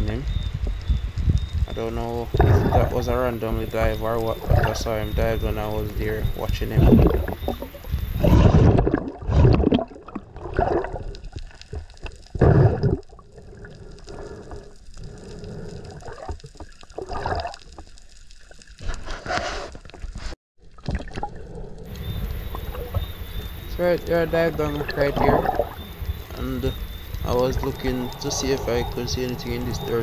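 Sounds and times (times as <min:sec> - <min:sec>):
water gurgling and sloshing: 0:01.2 - 0:30.0.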